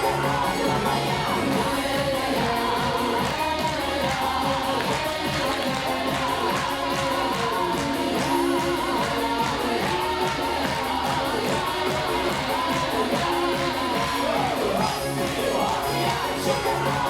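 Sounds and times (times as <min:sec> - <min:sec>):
folk dance music: 0:00.0 - 0:17.0
person singing: 0:00.0 - 0:17.0.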